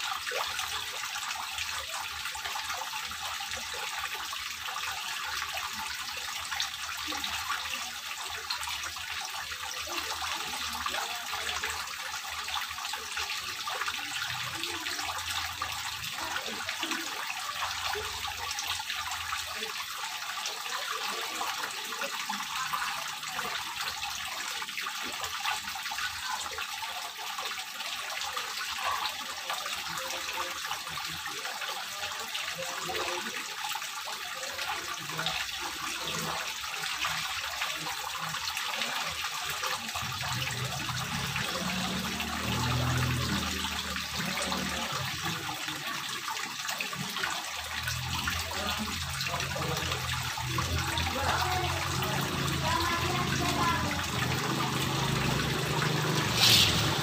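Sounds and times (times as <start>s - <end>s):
fountain water splashing trickle: 0.0s - 57.0s.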